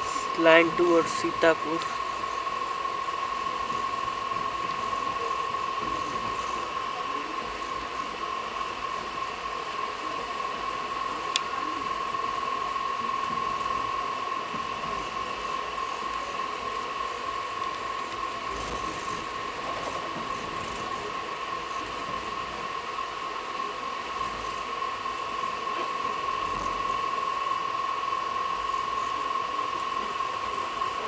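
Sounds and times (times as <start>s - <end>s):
constant high whine: 0.0s - 31.0s
train running hiss: 0.0s - 31.0s.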